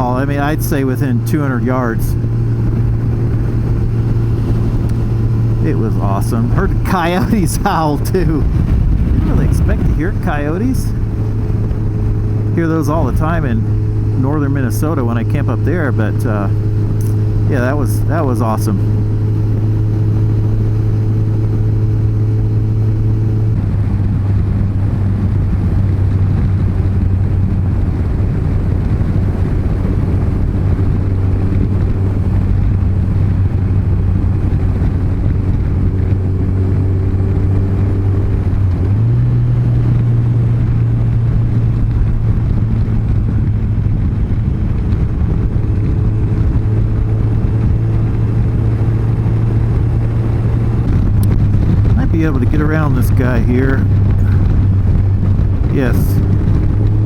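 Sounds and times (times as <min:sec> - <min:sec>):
motorcycle engine humming: 0:00.0 - 0:57.0
wind and road rush: 0:00.0 - 0:57.0.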